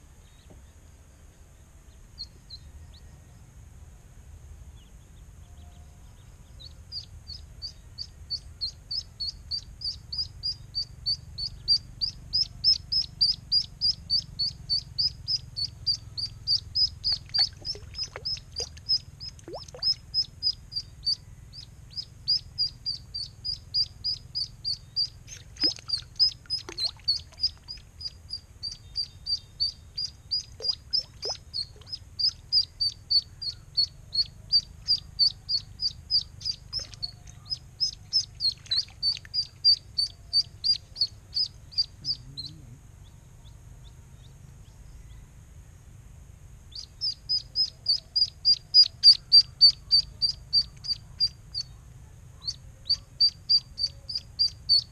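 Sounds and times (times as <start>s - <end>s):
duckling peeping: 6.6s - 43.2s, 46.7s - 51.7s, 52.4s - 54.9s.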